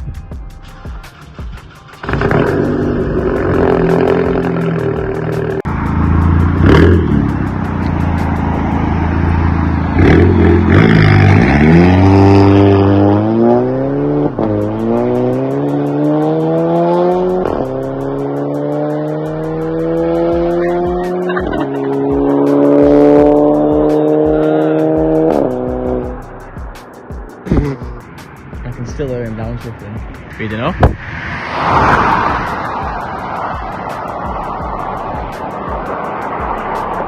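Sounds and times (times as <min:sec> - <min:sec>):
car exhaust accelerating hard: 0:02.0 - 0:37.0.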